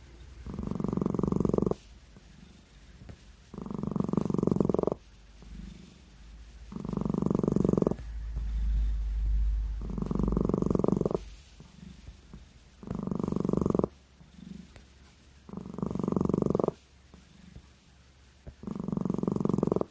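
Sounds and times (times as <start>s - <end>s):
cat snoring: 0.4s - 2.7s, 3.5s - 14.8s, 15.4s - 17.6s, 18.4s - 19.9s.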